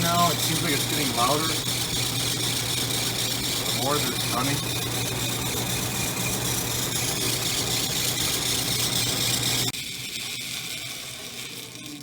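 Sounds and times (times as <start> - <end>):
furnace blower running: 0.0 - 12.0.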